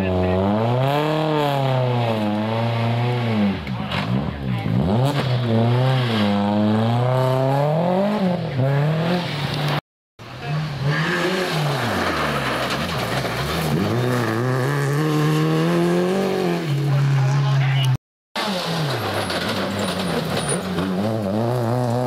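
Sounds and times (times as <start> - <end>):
rally car engines revving: 0.0 - 22.0.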